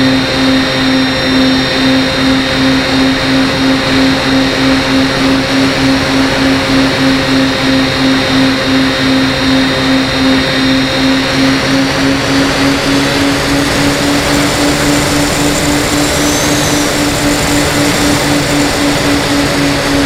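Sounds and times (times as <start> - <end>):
propeller aircraft engine in flight: 0.0 - 20.0.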